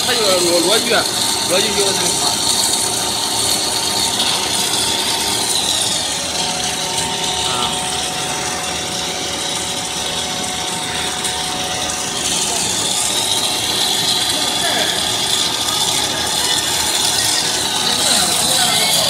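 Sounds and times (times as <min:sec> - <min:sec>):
snack extruder machine whirring: 0:00.0 - 0:19.0.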